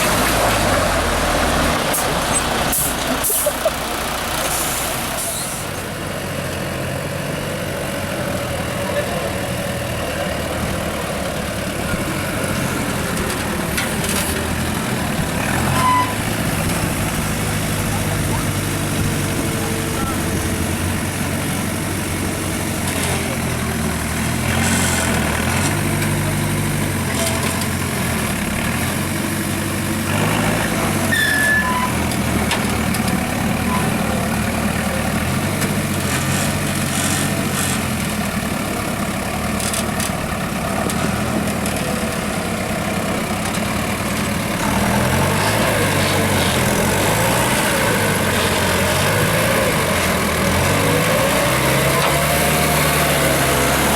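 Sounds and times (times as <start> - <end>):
diesel truck engine revving: 0.0 - 53.9.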